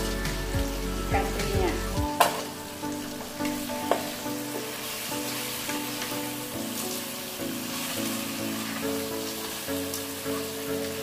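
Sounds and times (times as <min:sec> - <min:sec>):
background music: 0:00.0 - 0:11.0
food sizzling in a wok: 0:00.0 - 0:11.0.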